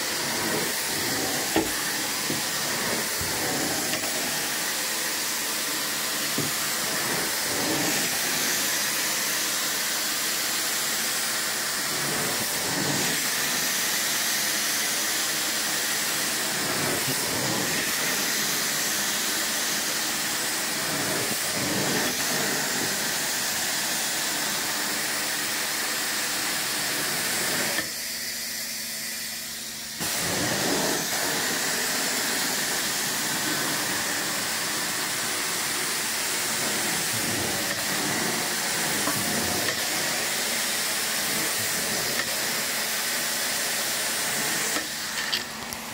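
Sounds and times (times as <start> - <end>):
carpet cleaner suction and spray: 0.0 - 45.9.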